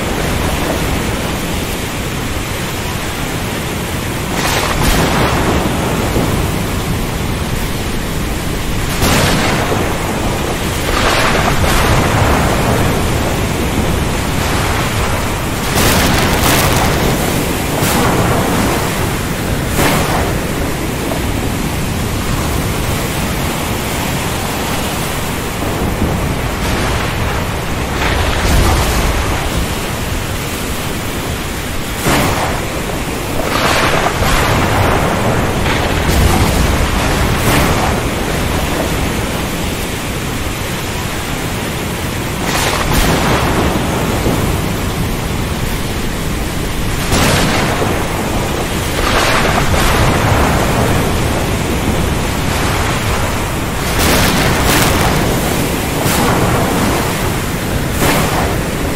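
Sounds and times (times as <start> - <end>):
heavy rain hissing: 0.0 - 58.9
thunder cracking and rumbling: 0.0 - 58.9.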